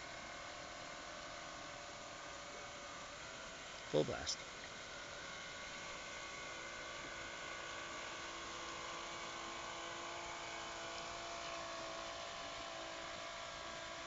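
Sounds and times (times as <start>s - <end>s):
small electric motor whine: 0.0s - 14.0s.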